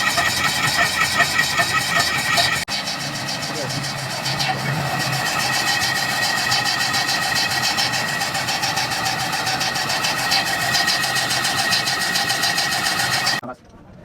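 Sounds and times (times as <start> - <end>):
machine fast even ticking: 0.0 - 13.4
machine high whine: 0.0 - 13.4.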